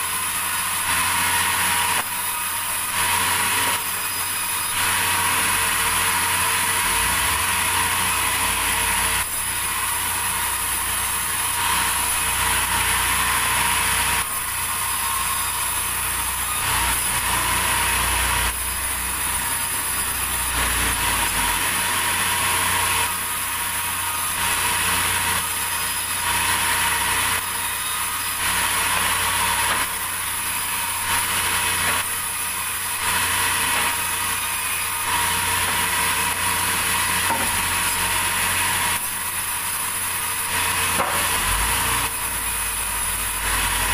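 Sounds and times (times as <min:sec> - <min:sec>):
sawmill saw cutting timber: 0:00.0 - 0:43.9.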